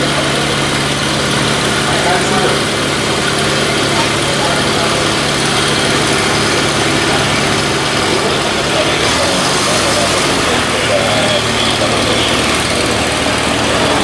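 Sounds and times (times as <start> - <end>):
light aircraft engine with propeller: 0.0 - 14.0.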